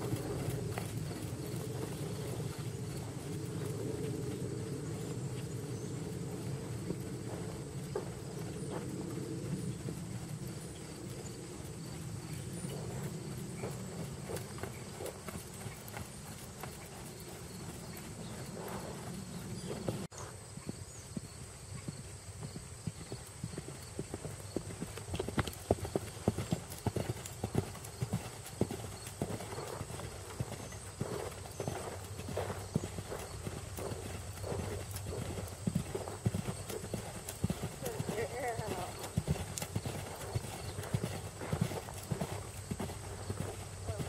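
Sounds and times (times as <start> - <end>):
horse cantering on gravel: 0.0 - 44.0.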